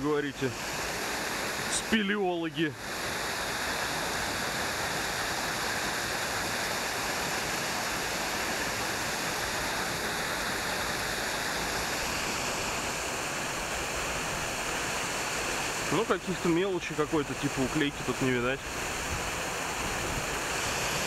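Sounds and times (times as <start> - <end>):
water rushing through culvert: 0.0 - 21.0.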